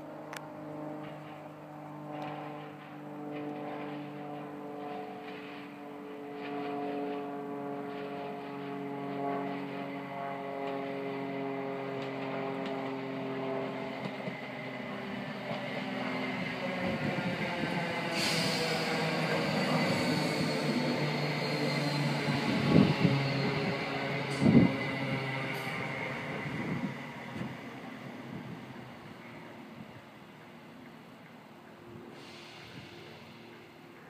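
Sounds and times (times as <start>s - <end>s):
electric train passing: 0.0s - 34.0s.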